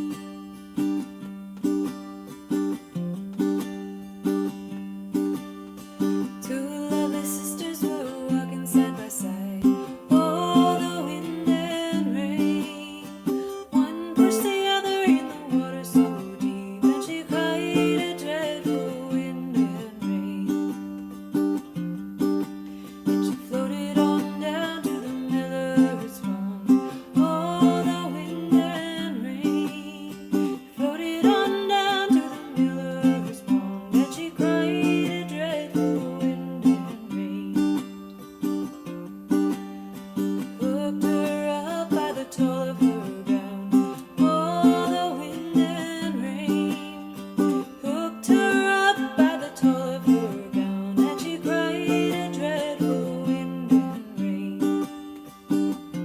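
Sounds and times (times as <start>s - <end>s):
plucked string instrument: 0.0s - 56.0s.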